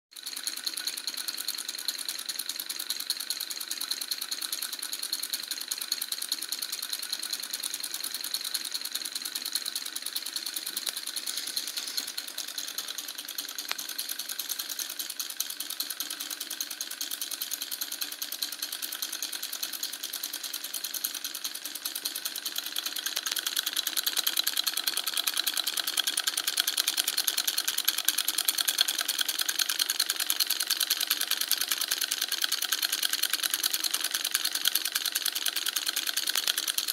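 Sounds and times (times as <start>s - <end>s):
solenoid engine clatter: 0.1s - 36.9s.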